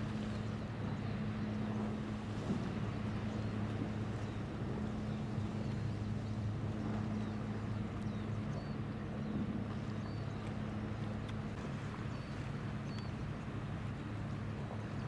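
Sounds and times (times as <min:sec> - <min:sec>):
ship engines humming: 0:00.0 - 0:15.0.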